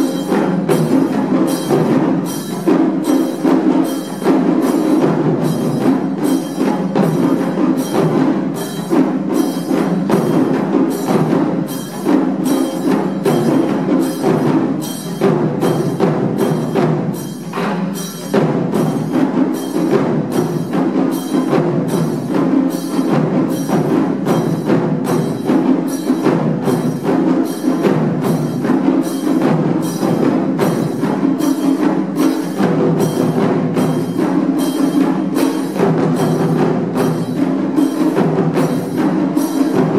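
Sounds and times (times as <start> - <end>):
taiko drums playing: 0.0 - 39.9.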